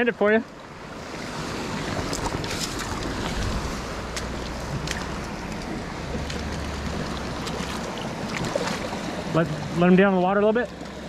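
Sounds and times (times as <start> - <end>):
stream running over rocks: 0.0 - 11.0
wind buffeting microphone: 0.8 - 9.8.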